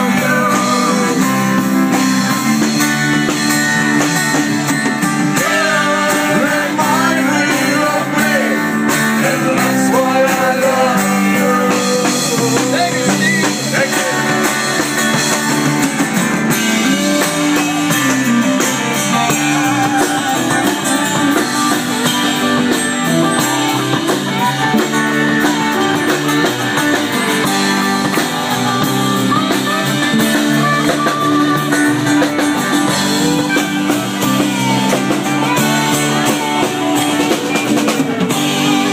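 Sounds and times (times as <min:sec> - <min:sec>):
live band playing: 0:00.0 - 0:38.9
wavering lead guitar melody: 0:00.0 - 0:38.9.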